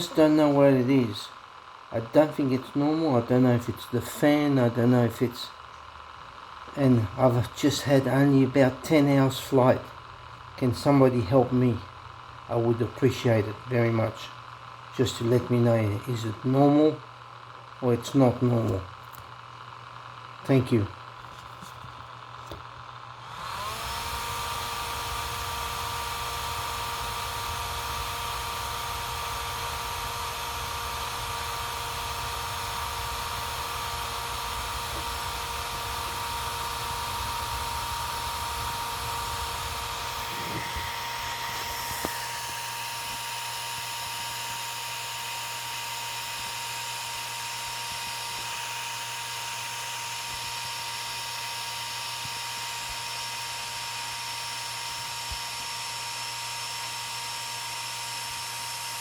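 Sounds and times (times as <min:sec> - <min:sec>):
drone electric whine: 0:00.0 - 0:59.0.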